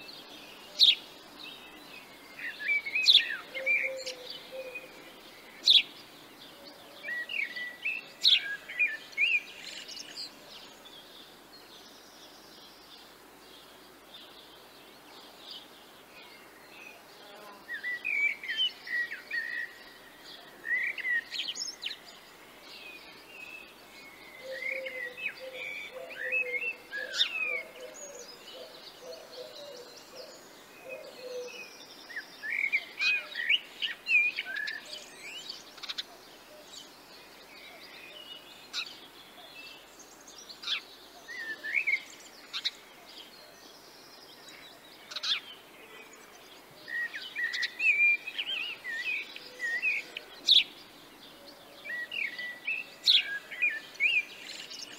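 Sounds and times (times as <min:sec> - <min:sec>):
faint outdoor background noise: 0:00.0 - 0:54.9
songbirds chirping and trilling: 0:00.0 - 0:54.9.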